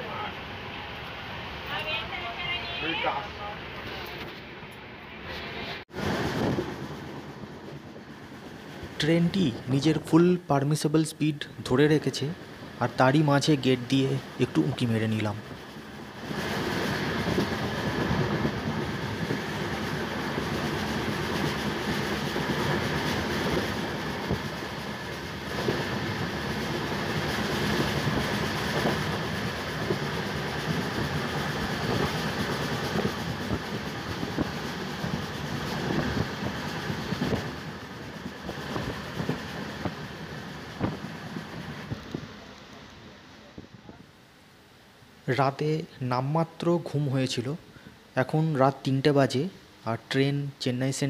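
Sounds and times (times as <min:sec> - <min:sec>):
train wheels rushing on rails: 0:00.0 - 0:44.2.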